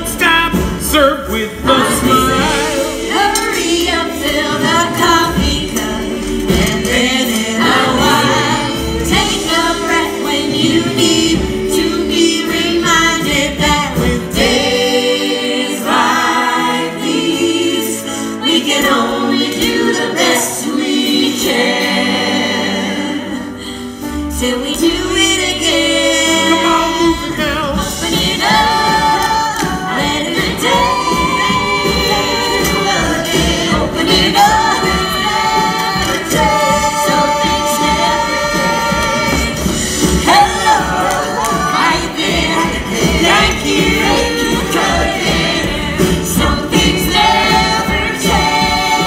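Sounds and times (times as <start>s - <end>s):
cast singing together: 0.0s - 23.5s, 24.4s - 49.0s
live band playing: 0.0s - 49.0s.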